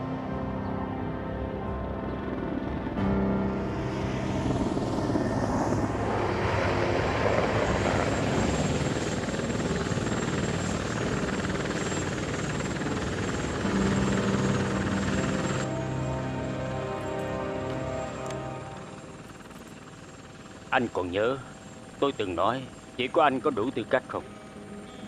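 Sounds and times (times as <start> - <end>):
helicopter rotor and engine: 0.0 - 25.0.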